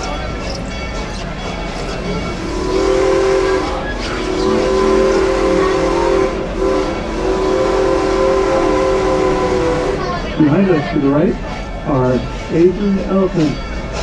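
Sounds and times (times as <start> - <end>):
steam locomotive whistle chord: 0.0 - 13.0.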